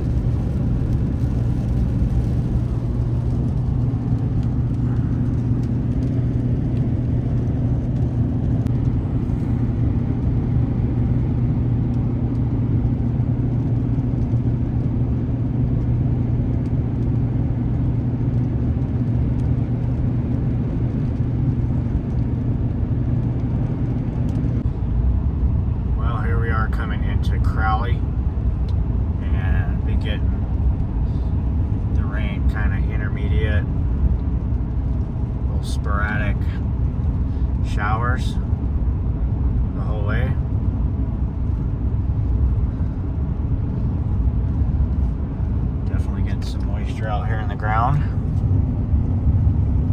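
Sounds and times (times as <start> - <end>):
road noise: 0.0 - 49.9
vehicle engine drone: 0.0 - 49.9.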